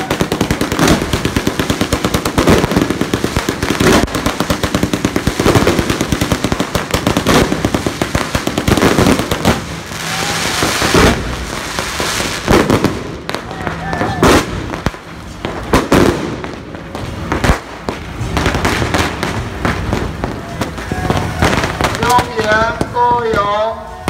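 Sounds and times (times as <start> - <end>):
firecrackers crackling and banging: 0.0 - 24.0
fountain fireworks hissing: 0.0 - 24.0.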